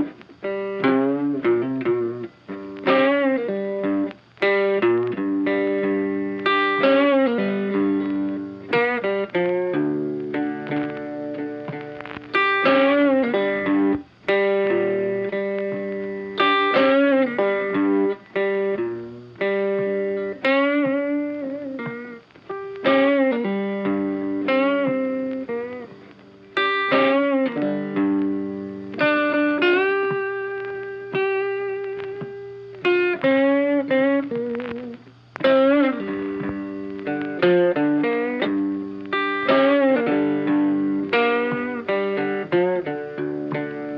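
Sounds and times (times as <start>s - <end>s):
plucked melody music: 0.0s - 43.9s.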